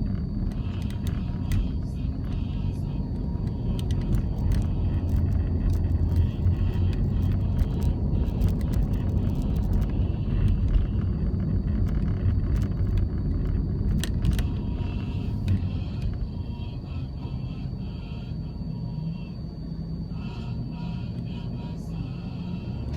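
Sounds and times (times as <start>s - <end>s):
car engine and tyre rumble: 0.0s - 22.9s.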